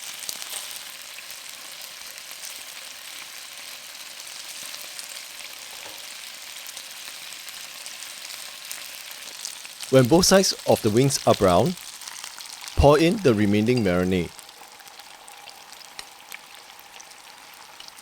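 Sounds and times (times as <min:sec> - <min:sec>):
chicken wings sizzling in oil: 0:00.0 - 0:18.0.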